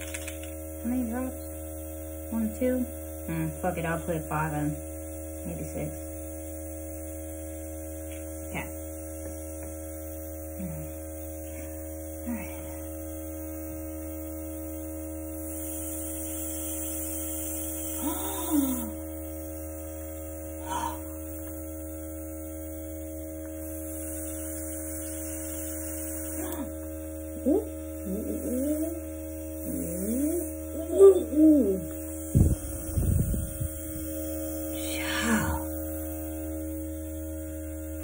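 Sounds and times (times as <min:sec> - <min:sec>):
compressor humming: 0:00.0 - 0:38.0
airbrush hissing air: 0:03.3 - 0:38.0.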